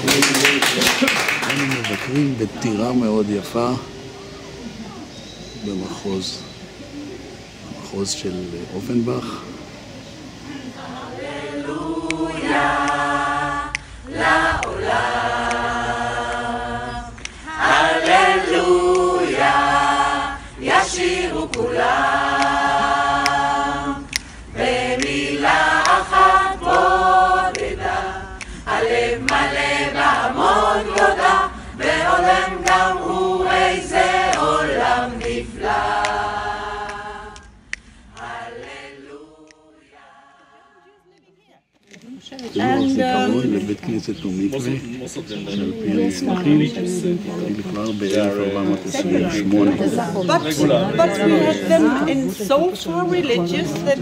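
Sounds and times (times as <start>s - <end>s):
choir singing a cappella: 1.8s - 6.6s, 10.3s - 41.2s, 42.2s - 54.0s.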